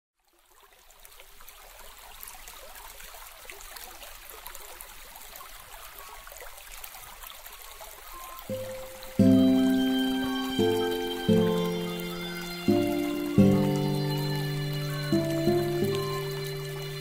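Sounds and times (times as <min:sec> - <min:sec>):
soft trickling with crackles: 0:00.2 - 0:17.0.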